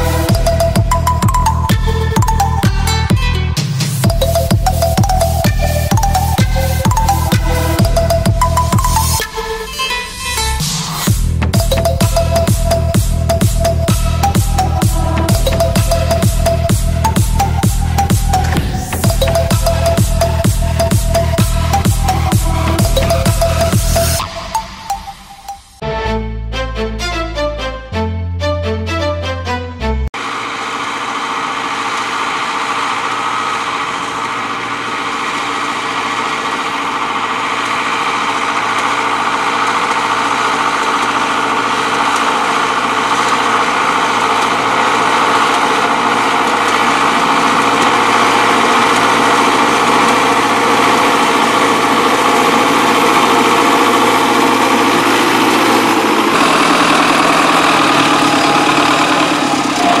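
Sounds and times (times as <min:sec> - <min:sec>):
tractor diesel engine under load: 0:00.0 - 0:25.8, 0:30.1 - 1:00.0.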